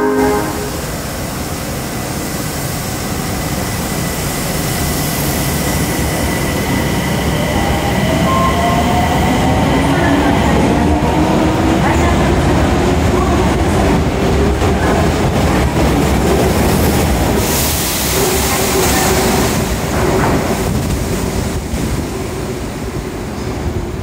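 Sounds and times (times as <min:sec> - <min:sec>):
subway train running: 0:00.0 - 0:24.0.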